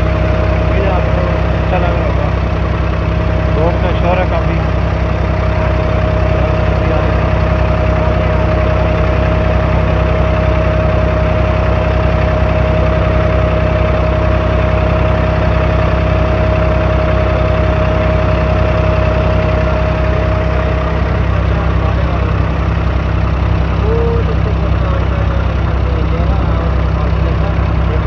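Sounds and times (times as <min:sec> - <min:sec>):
boat diesel engine humming: 0:00.0 - 0:28.0.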